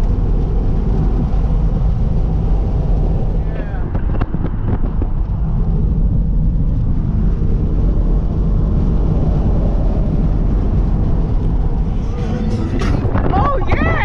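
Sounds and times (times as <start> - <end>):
car engine humming: 0.0 - 14.0
tyre and wind noise: 0.0 - 14.0.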